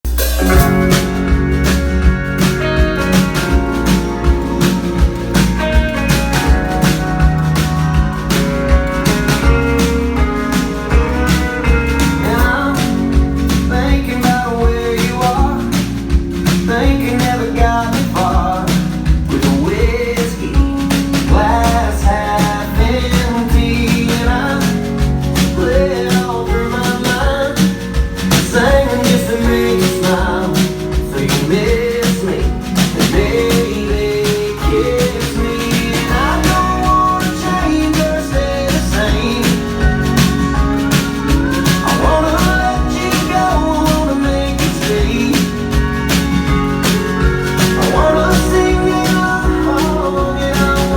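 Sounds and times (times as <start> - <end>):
country rock band playing: 0.0 - 50.9
drum beat: 0.0 - 50.9
gliding lead melody: 0.4 - 31.6, 32.5 - 50.9.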